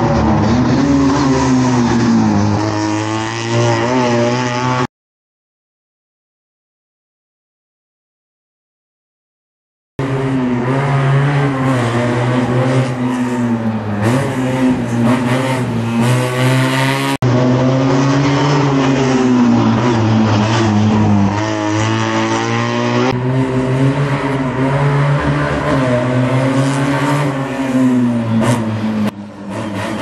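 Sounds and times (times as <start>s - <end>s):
small racing car engines revving: 0.0s - 4.9s, 10.0s - 30.0s.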